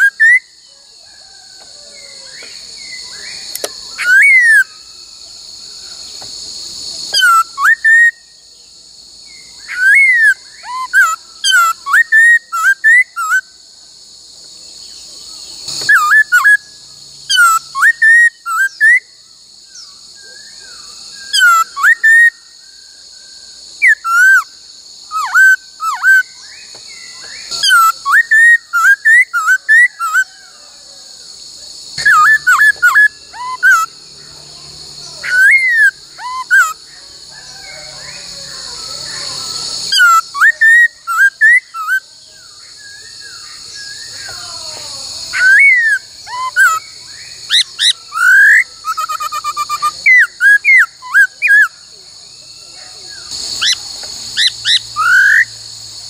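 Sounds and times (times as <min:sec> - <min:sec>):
bird singing whistled notes: 0:00.0 - 0:13.6, 0:14.8 - 0:31.0, 0:31.9 - 0:34.0, 0:35.0 - 0:44.4, 0:45.2 - 0:55.6.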